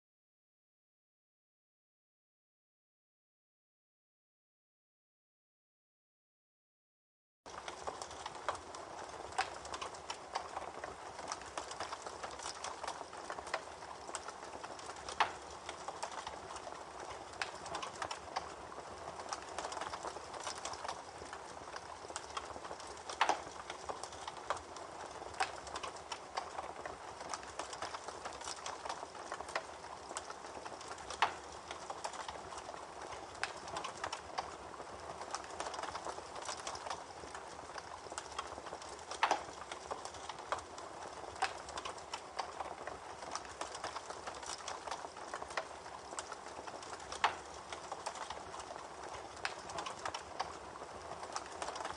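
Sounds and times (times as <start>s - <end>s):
campfire crackling: 7.5s - 51.9s
wood popping in fire: 7.5s - 51.9s.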